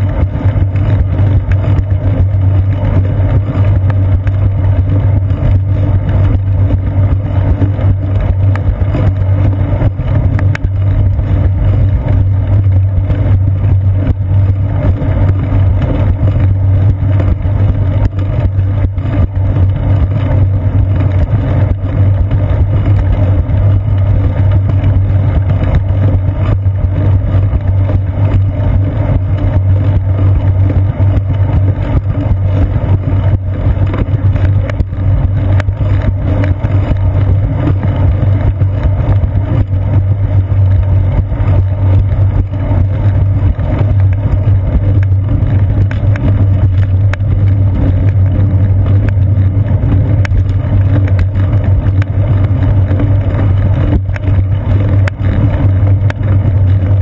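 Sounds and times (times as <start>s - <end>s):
bicycle rumbling on concrete: 0.0s - 57.0s
wind noise: 0.0s - 57.0s.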